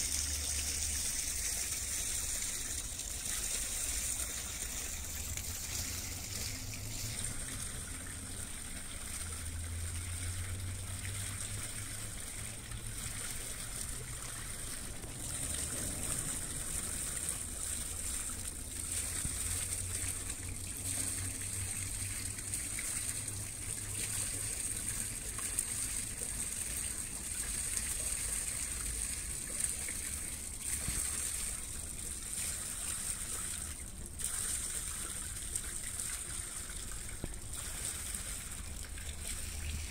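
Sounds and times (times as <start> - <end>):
water rushing along a hull: 0.0 - 39.9.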